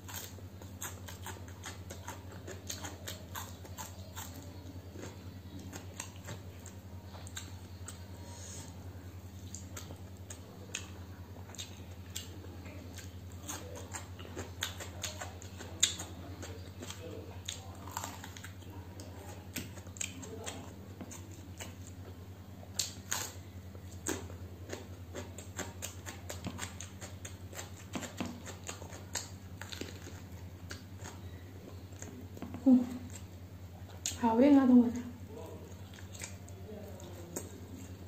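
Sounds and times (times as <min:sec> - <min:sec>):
chewing and mouth smacks: 0:00.0 - 0:08.2, 0:09.3 - 0:22.1, 0:22.7 - 0:34.2, 0:35.4 - 0:38.0.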